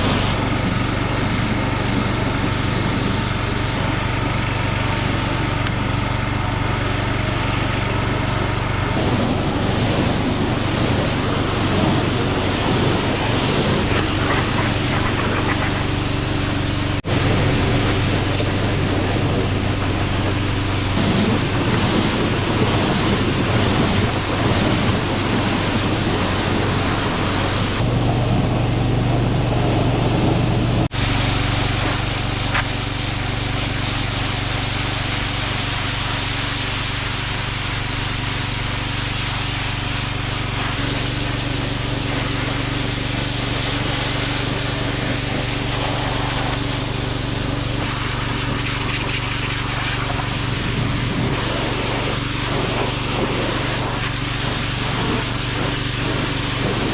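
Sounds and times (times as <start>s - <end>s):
water spray hissing: 0.0s - 28.6s, 29.7s - 56.9s
pressure washer engine running: 0.0s - 56.9s.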